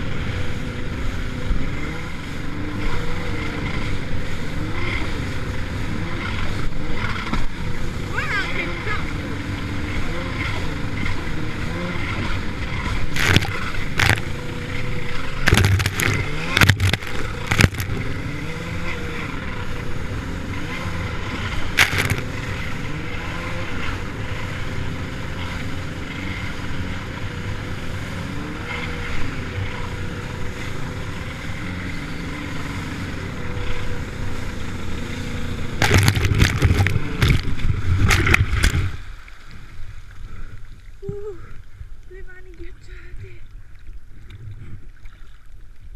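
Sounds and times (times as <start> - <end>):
hull slapping water: 0.0 - 45.9
jet ski engine running: 0.0 - 45.9.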